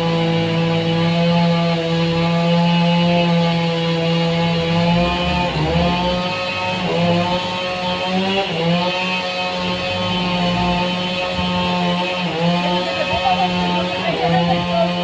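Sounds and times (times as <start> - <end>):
sawmill cutting log: 0.0 - 15.0.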